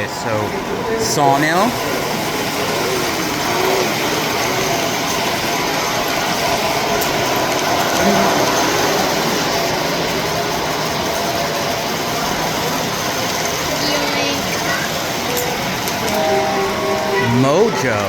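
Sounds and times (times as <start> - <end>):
model railroad mechanism running: 0.0 - 18.0.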